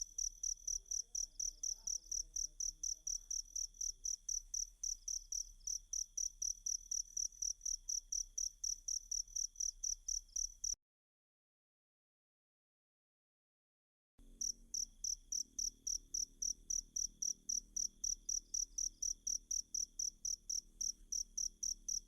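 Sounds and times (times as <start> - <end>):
cricket chirping: 0.0 - 10.8, 14.3 - 22.0.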